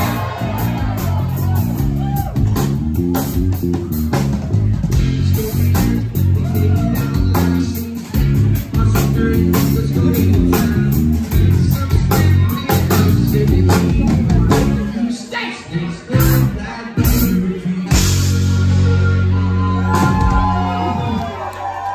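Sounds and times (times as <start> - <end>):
live rock band playing: 0.0 - 21.3.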